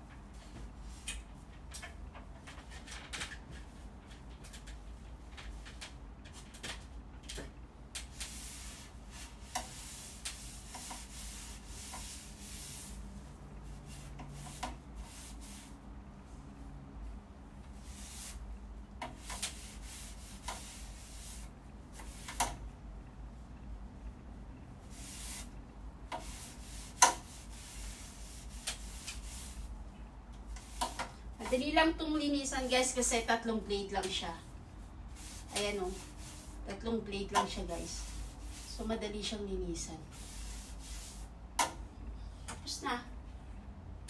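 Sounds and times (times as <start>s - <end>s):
cloth wiping fan blades: 0.0s - 22.8s, 23.4s - 41.6s.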